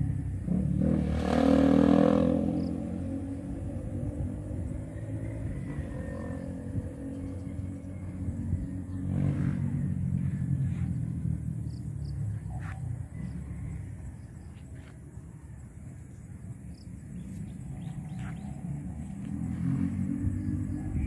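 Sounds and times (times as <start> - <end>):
motorcycle engine low rumble: 0.0 - 21.0.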